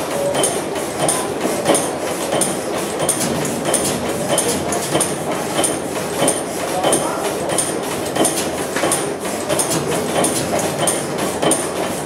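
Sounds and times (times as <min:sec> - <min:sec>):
stationary engine clacking slowly: 0:00.0 - 0:12.0.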